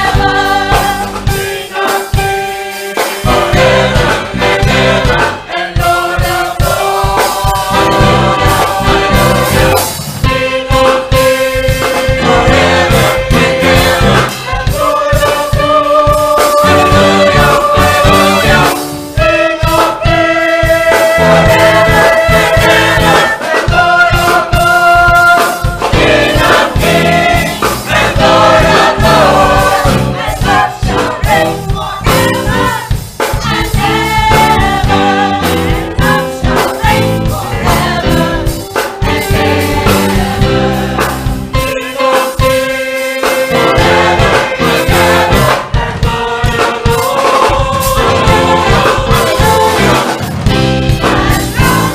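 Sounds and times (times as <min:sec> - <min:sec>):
band accompaniment with steady beat: 0:00.0 - 0:51.9
gospel choir singing: 0:00.0 - 0:51.9.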